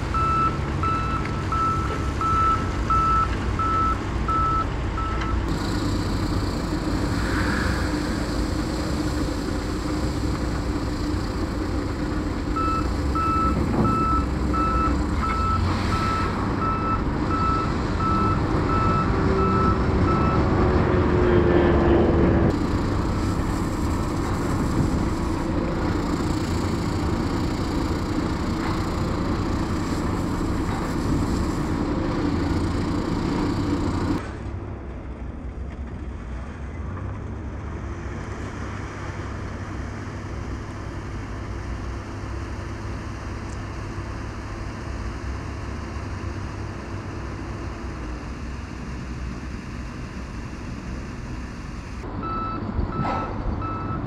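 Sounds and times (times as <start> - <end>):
construction machinery engine drone: 0.0 - 54.0
distant machinery rumble: 0.0 - 54.0.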